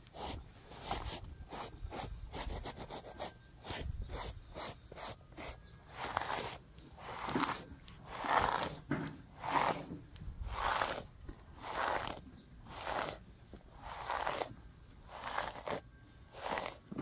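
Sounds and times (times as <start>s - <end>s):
brush scraping through horse hair: 0.0s - 17.0s.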